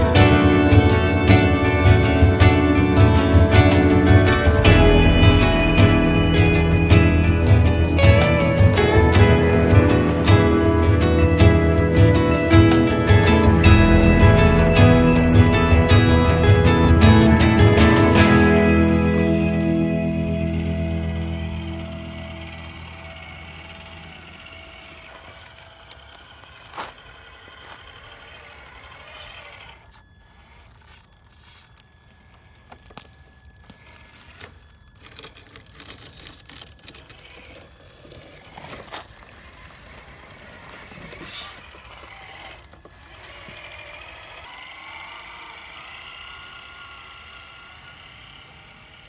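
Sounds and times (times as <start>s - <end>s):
toy car electric motor whine: 0.0s - 49.0s.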